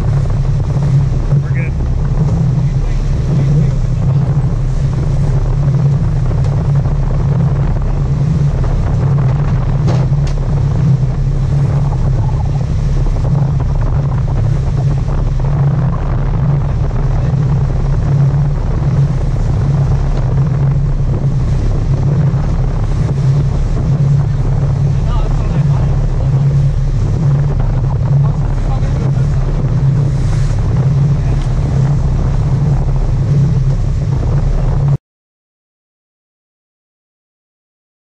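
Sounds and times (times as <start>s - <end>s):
boat engine humming: 0.0s - 35.0s
wind on microphone: 0.0s - 35.0s.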